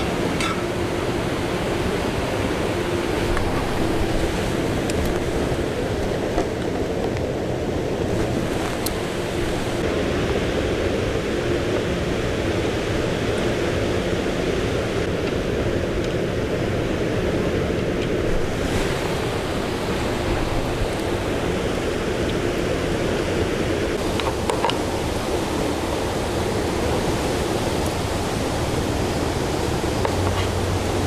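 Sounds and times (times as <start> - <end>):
water rushing: 0.0 - 31.0.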